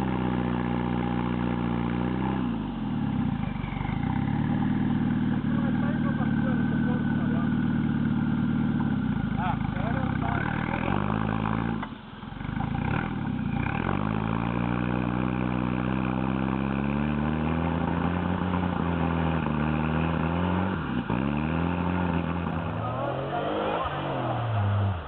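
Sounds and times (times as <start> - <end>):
engine revving under load: 0.0 - 25.0.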